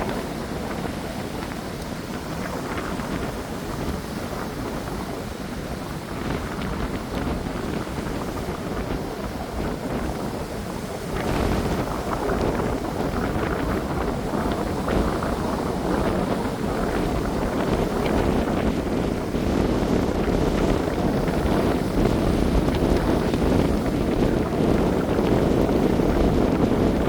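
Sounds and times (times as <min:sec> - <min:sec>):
sea waves washing ashore: 0:00.0 - 0:27.0
wind buffeting microphone: 0:00.0 - 0:27.0.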